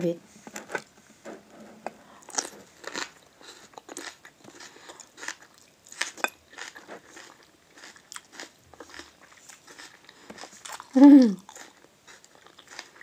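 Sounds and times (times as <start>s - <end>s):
person chewing crunchy food: 1.7s - 13.0s.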